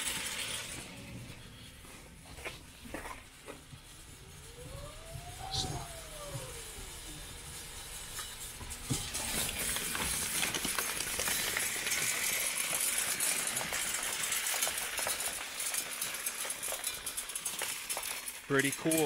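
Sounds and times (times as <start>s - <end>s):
salt spreader spinner: 0.0s - 19.0s
salt granules pattering on concrete: 2.5s - 19.0s.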